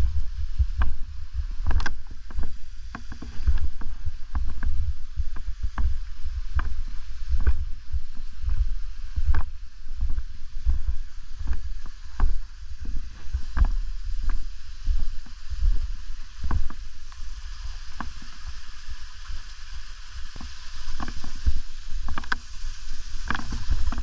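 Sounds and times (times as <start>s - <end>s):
footsteps crunching through snow: 0.0s - 24.0s
wind buffeting microphone: 0.0s - 24.0s.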